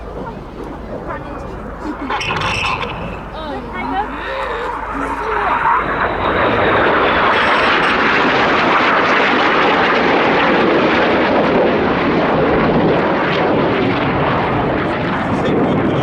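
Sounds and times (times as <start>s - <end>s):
jet engine rush: 0.0s - 16.0s.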